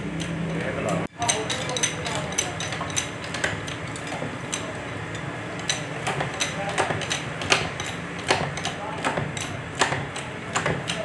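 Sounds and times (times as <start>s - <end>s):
sheet metal clinks and taps: 1.2s - 11.0s.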